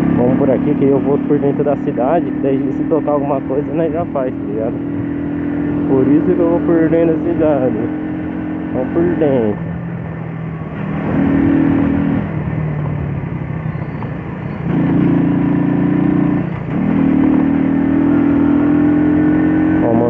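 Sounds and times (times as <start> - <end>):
moped engine revving: 0.0 - 20.0.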